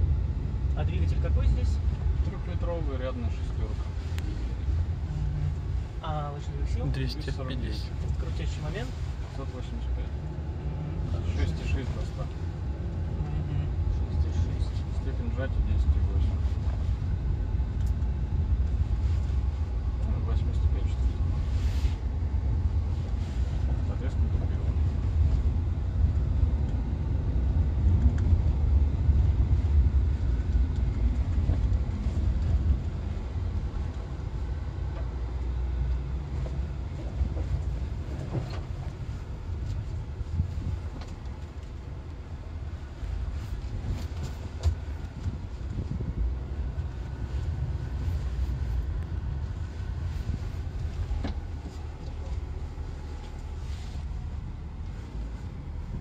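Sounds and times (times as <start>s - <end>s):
car cabin engine and tyre rumble: 0.0s - 56.0s.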